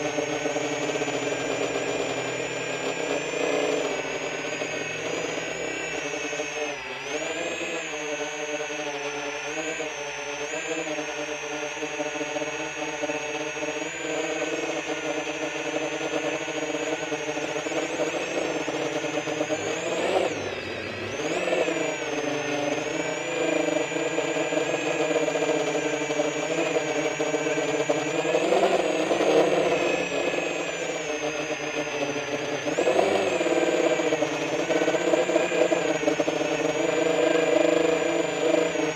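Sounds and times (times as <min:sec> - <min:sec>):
quadcopter propellers whining: 0:00.0 - 0:38.9.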